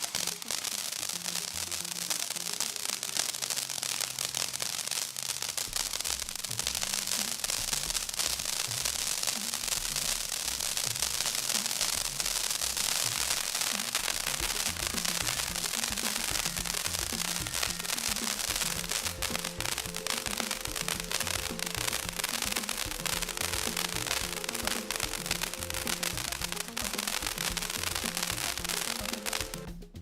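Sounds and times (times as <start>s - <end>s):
fireworks crackling: 0.0s - 30.0s
music with bass line: 5.5s - 30.0s.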